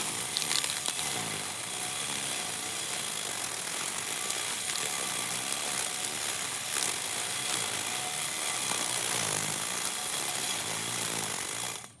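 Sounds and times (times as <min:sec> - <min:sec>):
small motor buzzing whir: 0:00.0 - 0:12.0.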